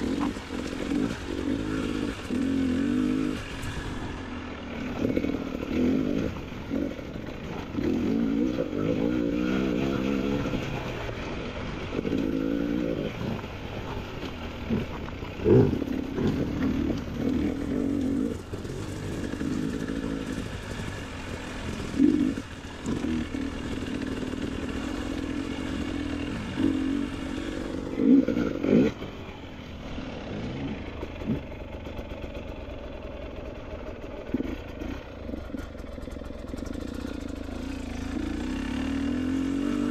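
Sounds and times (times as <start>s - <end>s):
motorcycle throttle bursts: 0.0s - 33.0s
motorcycle engine running: 0.0s - 39.9s.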